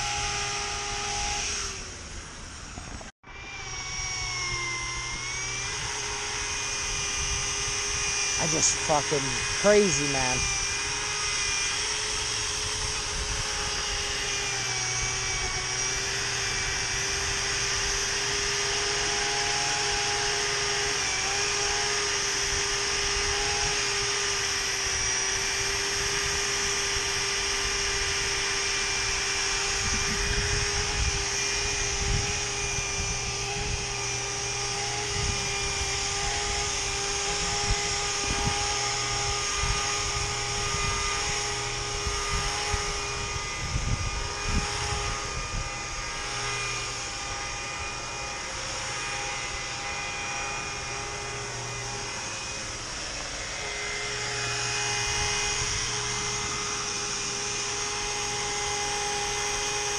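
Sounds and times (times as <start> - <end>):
rotary polisher running: 0.0 - 59.9.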